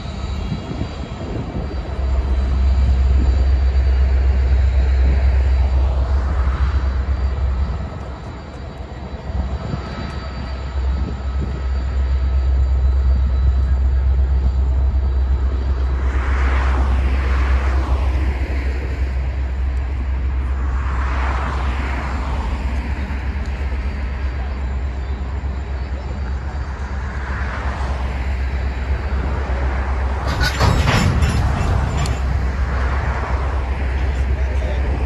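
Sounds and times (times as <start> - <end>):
diesel locomotive rumbling: 0.0 - 35.0.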